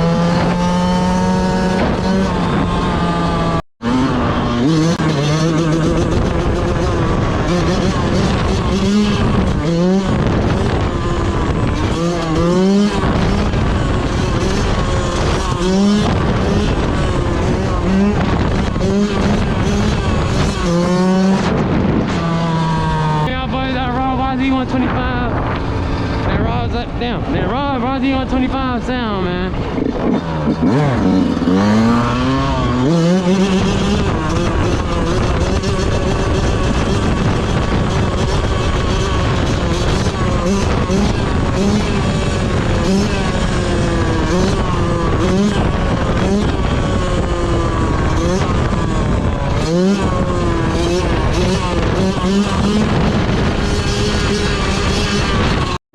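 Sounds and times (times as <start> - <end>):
dirt bike engine revving: 0.0 - 55.8.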